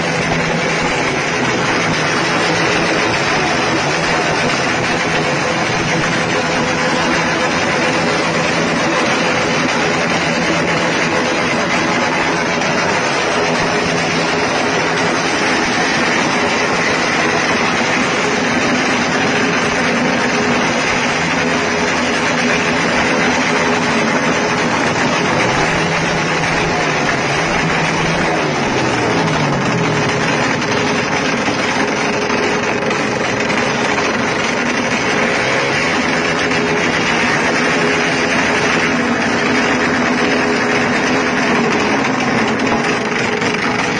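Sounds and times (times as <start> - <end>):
motorcycle engine running loudly: 0.0 - 43.9.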